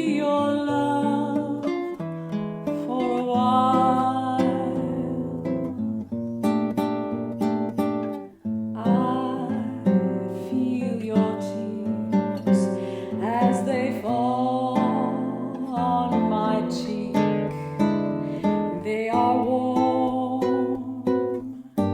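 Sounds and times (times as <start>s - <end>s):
acoustic guitar chords: 0.0s - 21.9s
sliding guitar melody line: 0.0s - 21.9s.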